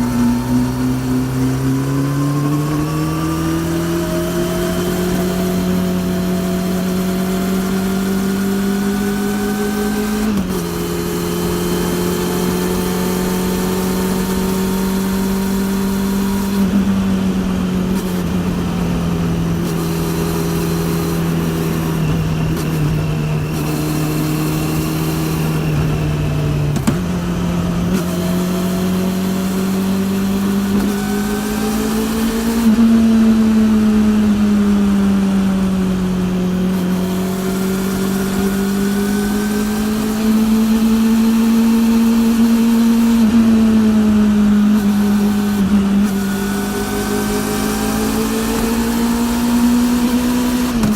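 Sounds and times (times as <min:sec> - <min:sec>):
motorcycle engine while riding: 0:00.0 - 0:50.9.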